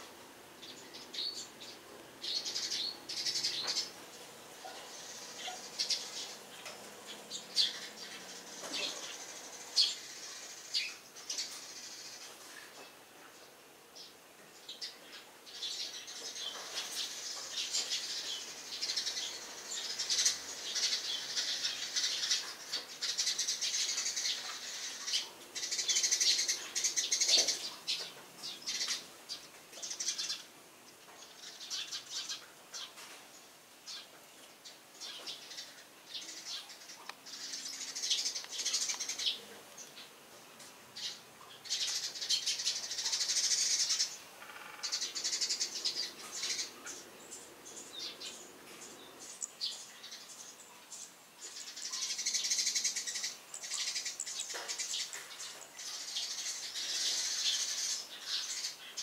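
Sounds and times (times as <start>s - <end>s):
sparrows chirping: 0.0s - 40.2s, 40.9s - 59.0s.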